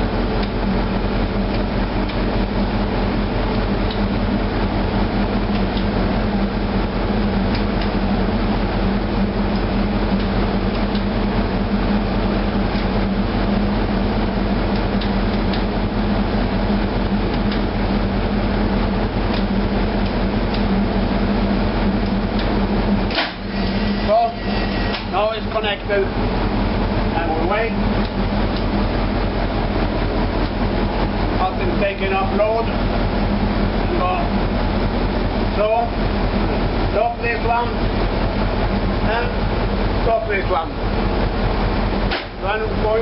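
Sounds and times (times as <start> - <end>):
marine diesel engine drone: 0.0 - 43.0.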